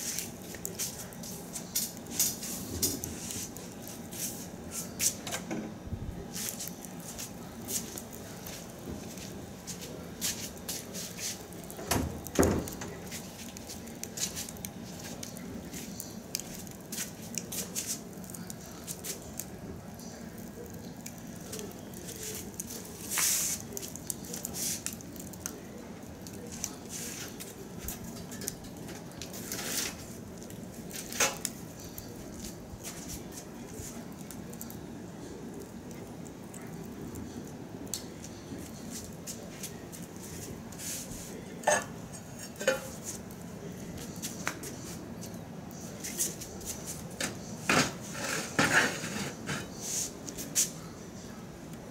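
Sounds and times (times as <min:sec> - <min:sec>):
fire low hiss: 0:00.0 - 0:51.9
wood fire crackling and popping: 0:00.0 - 0:51.9.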